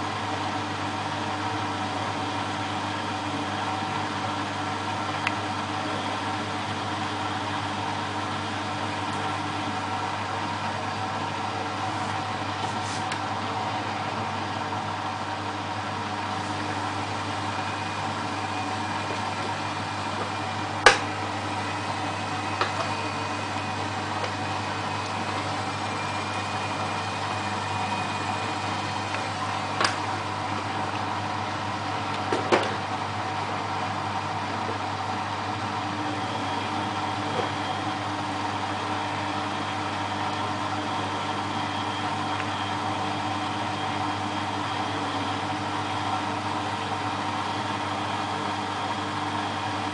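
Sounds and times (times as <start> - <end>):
washing machine humming: 0.0 - 49.9.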